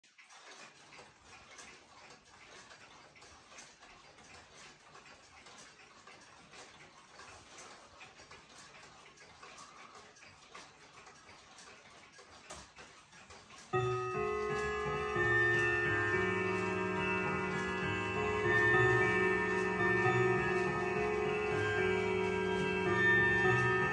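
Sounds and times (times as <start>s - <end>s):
pendulum clocks ticking: 0.1s - 23.9s.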